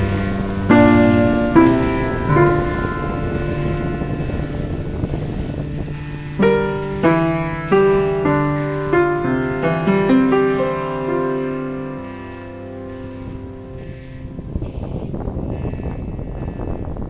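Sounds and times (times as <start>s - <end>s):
slow piano music: 0.0s - 14.8s.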